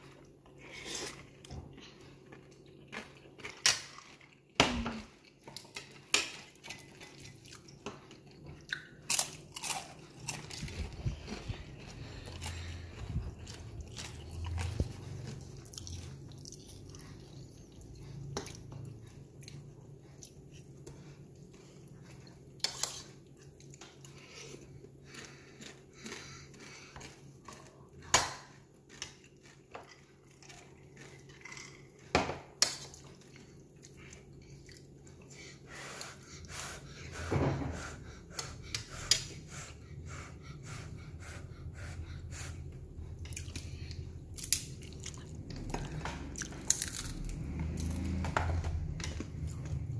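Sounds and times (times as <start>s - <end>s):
person chewing noodles: 0.0s - 49.9s
steady low hum: 0.0s - 49.9s.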